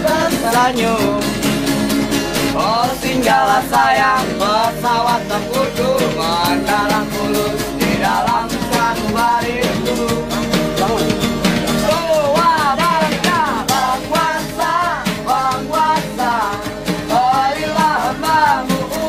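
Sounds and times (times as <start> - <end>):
person singing: 0.0 - 1.4, 2.5 - 19.0
percussive beat: 0.0 - 19.0
strummed acoustic guitar: 0.0 - 19.0.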